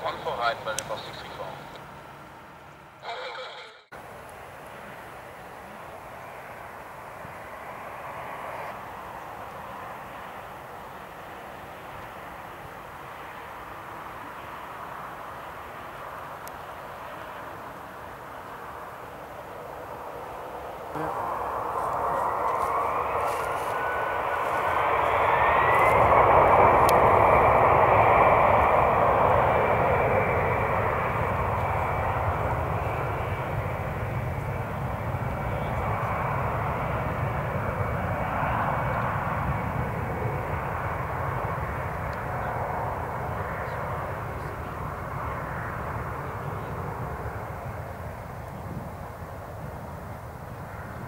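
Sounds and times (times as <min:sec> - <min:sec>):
jet engines spooling up: 0:04.0 - 0:48.4.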